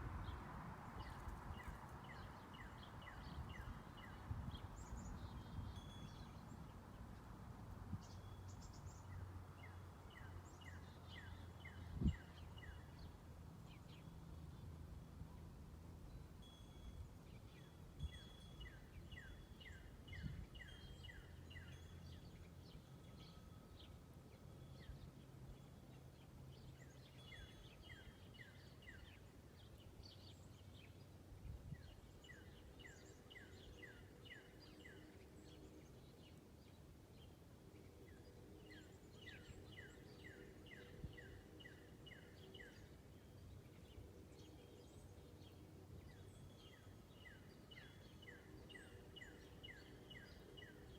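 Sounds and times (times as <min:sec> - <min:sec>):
small birds chipping: 0:00.0 - 0:50.9.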